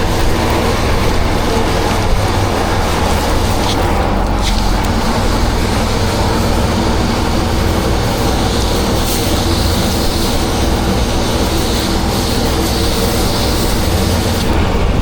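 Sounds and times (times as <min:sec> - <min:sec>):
pressure washer engine drone: 0:00.0 - 0:15.0
water spraying hiss: 0:00.0 - 0:15.0.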